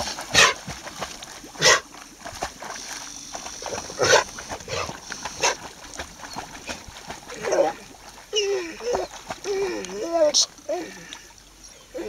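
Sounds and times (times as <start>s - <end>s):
dog swimming: 0.0s - 12.0s.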